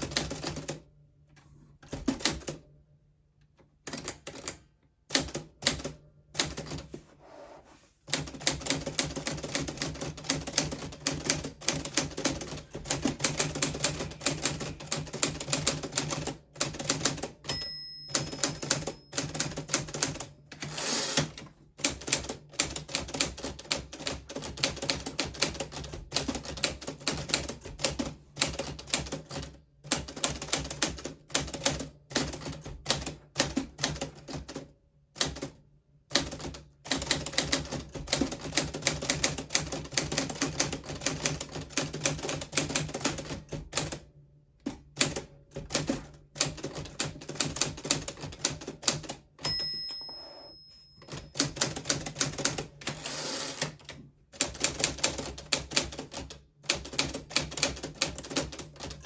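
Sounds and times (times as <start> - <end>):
manual typewriter typing: 0.0 - 0.8, 3.8 - 6.9, 8.1 - 49.5, 51.0 - 59.0.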